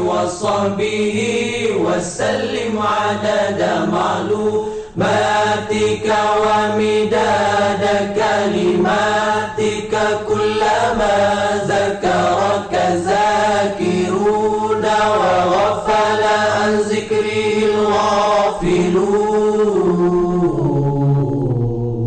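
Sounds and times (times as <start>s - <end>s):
voices chanting slow melody: 0.0s - 22.0s
steady low drone: 3.5s - 22.0s.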